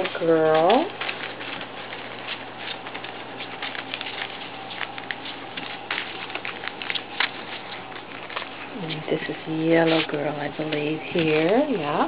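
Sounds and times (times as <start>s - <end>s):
newspaper crinkling under puppies: 0.0s - 12.0s.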